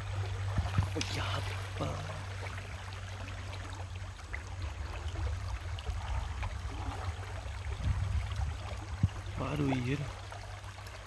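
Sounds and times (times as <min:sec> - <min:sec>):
river water running: 0:00.0 - 0:11.0
steady low rumble: 0:00.0 - 0:11.0.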